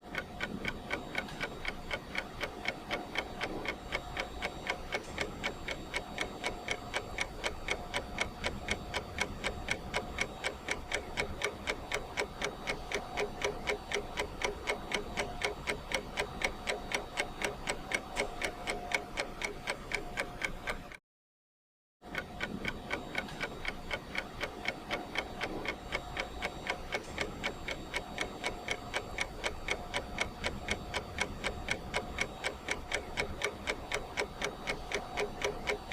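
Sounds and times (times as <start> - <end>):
clock ticking: 0.0 - 21.0, 22.1 - 35.9.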